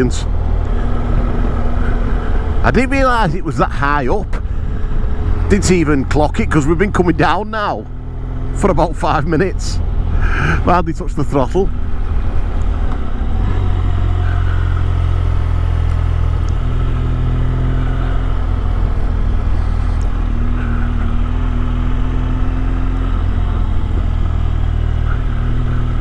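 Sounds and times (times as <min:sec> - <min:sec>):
motorcycle engine running: 0:00.0 - 0:26.0
rushing wind: 0:00.0 - 0:26.0.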